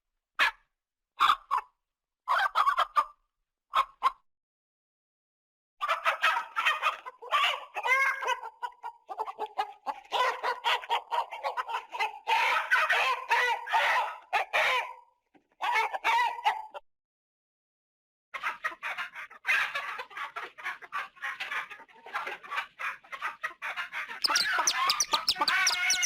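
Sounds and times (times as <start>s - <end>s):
chickens clucking: 1.2s - 1.7s, 2.3s - 4.2s, 5.8s - 16.8s, 18.4s - 26.0s.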